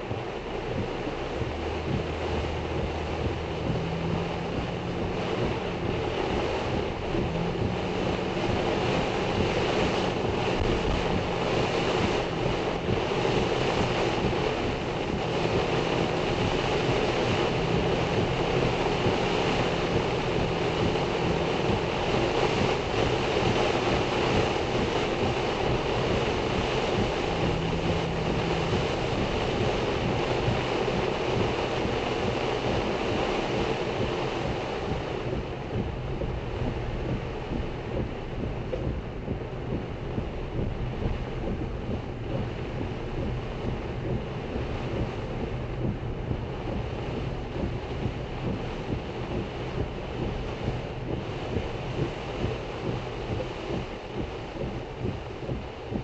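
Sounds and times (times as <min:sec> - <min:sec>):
car engine hum: 0:00.0 - 0:56.0
heavy rain and wind on car: 0:00.0 - 0:56.0.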